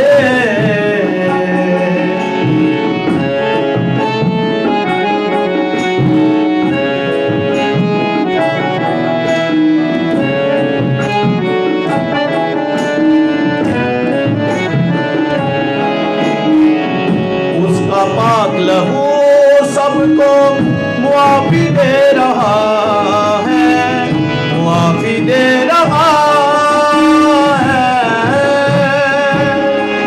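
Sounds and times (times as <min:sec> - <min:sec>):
instrumental melody with beat: 0:00.0 - 0:30.0.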